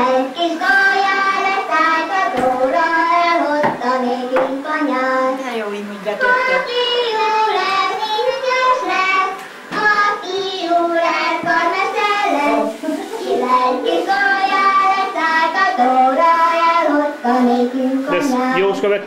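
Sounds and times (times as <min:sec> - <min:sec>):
two voices singing: 0:00.0 - 0:05.4, 0:06.1 - 0:19.0.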